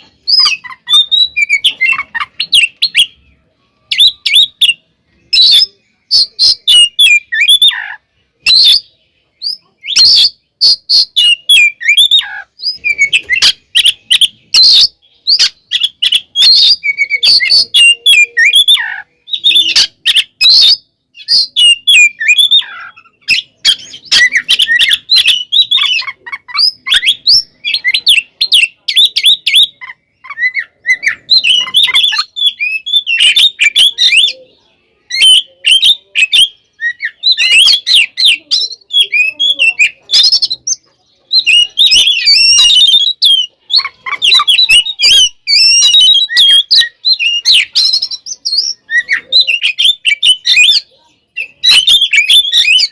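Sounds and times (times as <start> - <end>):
bird singing chirps and whistles: 0.0 - 52.9.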